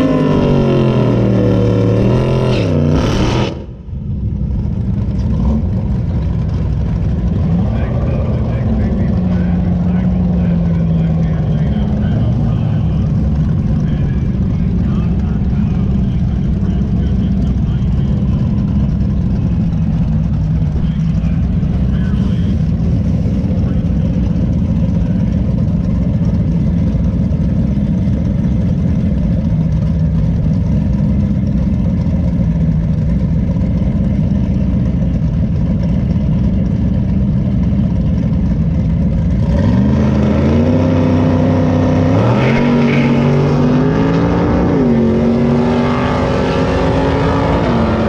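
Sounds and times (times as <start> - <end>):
drag car engine accelerating: 0.0 - 48.0.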